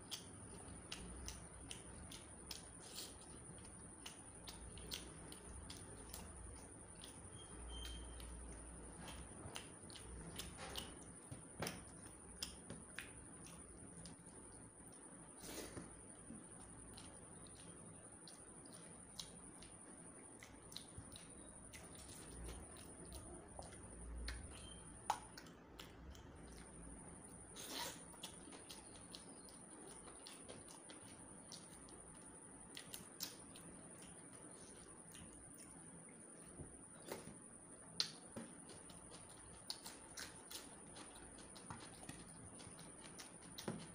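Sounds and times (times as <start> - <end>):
faint high whine: 0.0 - 43.9
wet eating sounds: 0.0 - 43.9.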